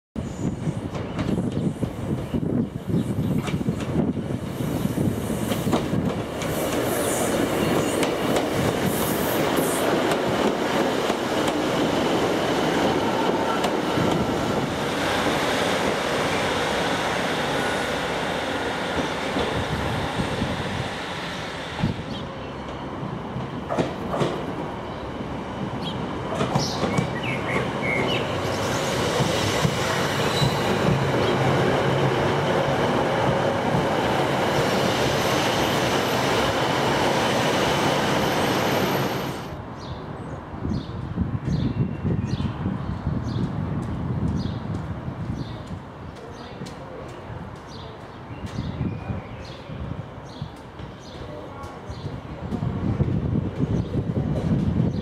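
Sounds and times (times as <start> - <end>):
train wheels rumbling on rail: 0.2 - 55.0.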